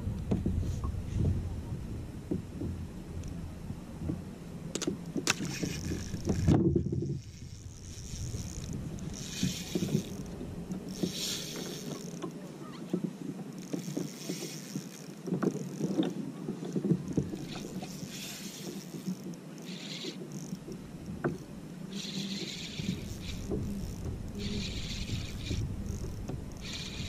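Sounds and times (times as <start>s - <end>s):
boat knocks and creaks: 0.0s - 27.0s
water lapping against kayak hull: 4.9s - 27.0s.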